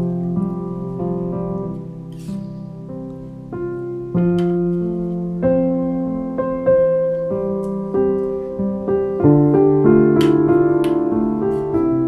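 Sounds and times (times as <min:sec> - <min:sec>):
solo piano: 0:00.0 - 0:12.0.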